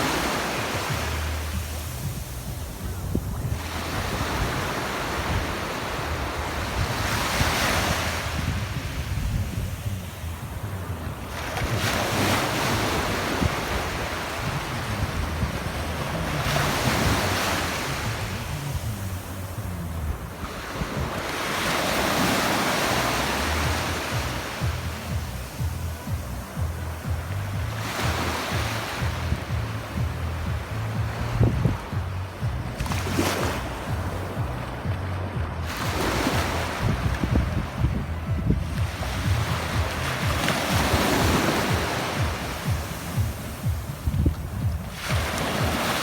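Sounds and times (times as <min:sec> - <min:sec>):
sea waves washing in: 0:00.0 - 0:46.0
wind rumbling on microphone: 0:00.0 - 0:46.0.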